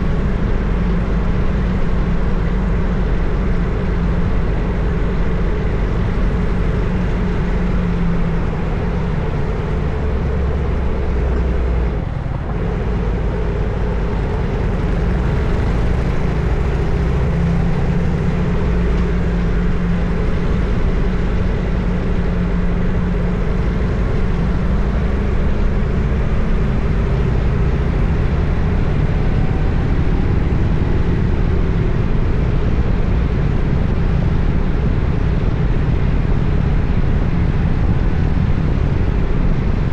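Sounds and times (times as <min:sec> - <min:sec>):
motorcycle engine running: 0:00.0 - 0:36.8.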